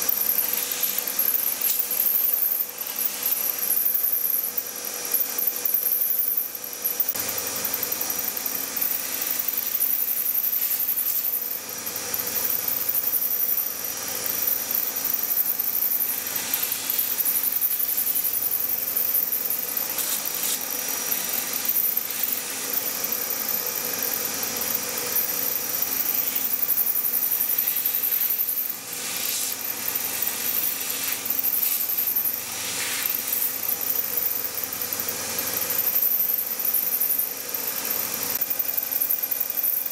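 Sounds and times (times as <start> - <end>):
milling cutter rasping metal: 0.0 - 7.2, 8.7 - 36.5
spindle motor hum and whine: 0.0 - 39.9.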